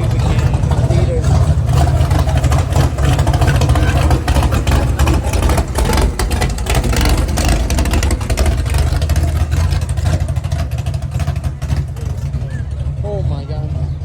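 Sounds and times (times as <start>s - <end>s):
car engines rumbling: 0.0s - 14.0s
crackling exhaust: 0.0s - 14.0s.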